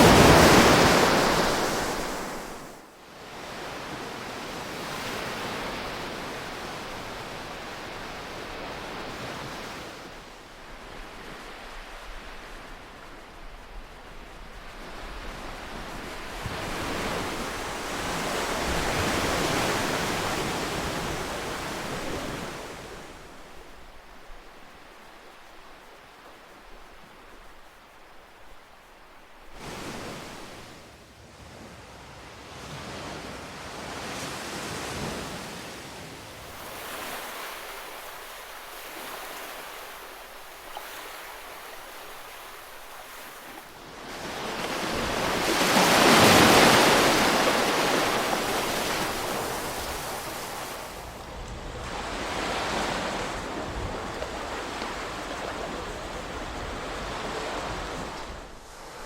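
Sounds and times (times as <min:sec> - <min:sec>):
ocean waves breaking: 0:00.0 - 0:30.8, 0:32.6 - 0:59.0.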